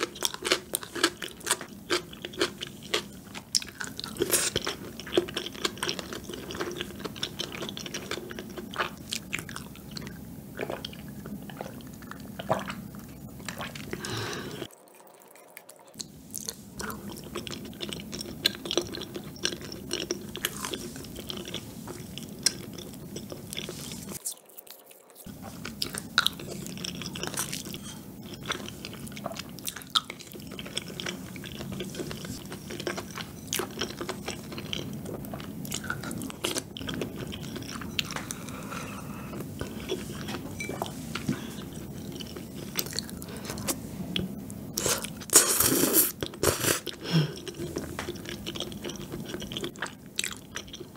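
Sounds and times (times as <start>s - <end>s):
close chewing with mouth clicks: 0.0s - 40.4s, 41.2s - 50.9s.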